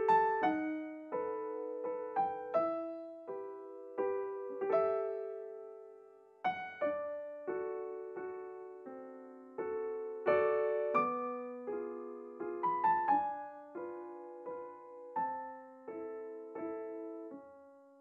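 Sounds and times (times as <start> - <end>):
slow solo piano piece: 0.0 - 18.0.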